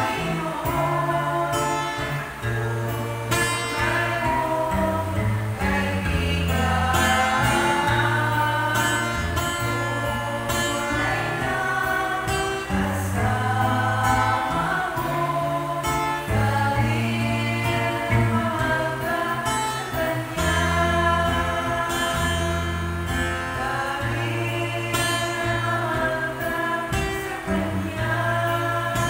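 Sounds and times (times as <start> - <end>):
sustained bass notes: 0.0 - 29.0
women singing together: 0.0 - 29.0.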